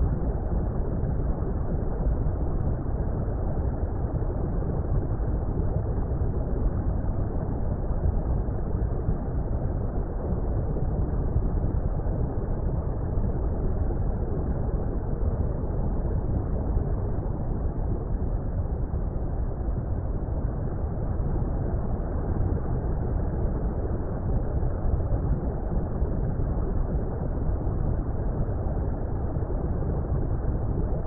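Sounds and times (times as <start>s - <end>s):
muffled underwater rumble: 0.0s - 31.0s.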